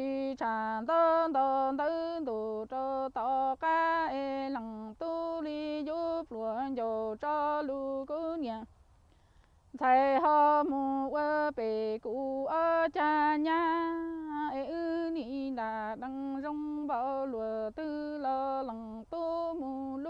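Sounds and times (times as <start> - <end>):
woman singing unaccompanied: 0.0 - 8.8, 9.7 - 20.0.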